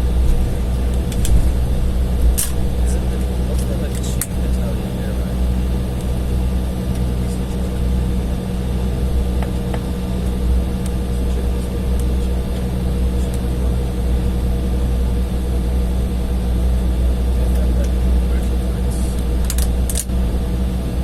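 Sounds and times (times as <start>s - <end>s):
constant thin hum: 0.0s - 21.0s
jet engines low rumble: 0.0s - 21.0s.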